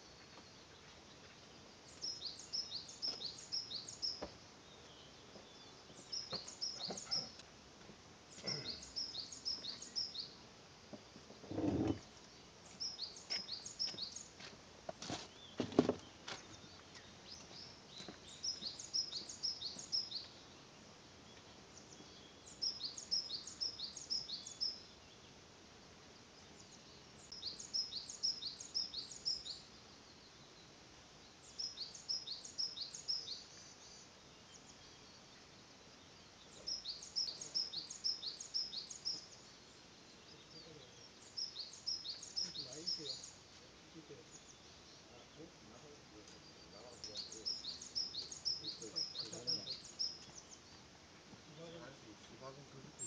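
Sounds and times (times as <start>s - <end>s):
faint forest background: 0.0s - 53.0s
songbird singing: 0.0s - 53.0s.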